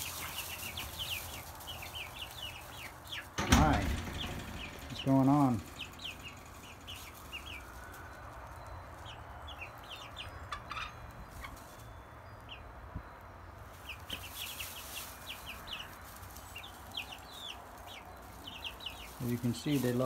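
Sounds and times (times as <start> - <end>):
chickens chirping: 0.0 - 20.0.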